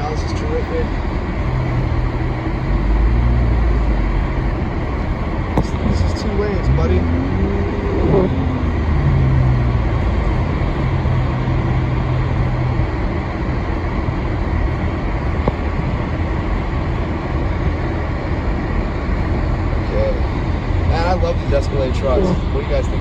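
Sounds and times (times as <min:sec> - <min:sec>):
car road and engine noise: 0:00.0 - 0:23.0
low hum: 0:00.0 - 0:23.0.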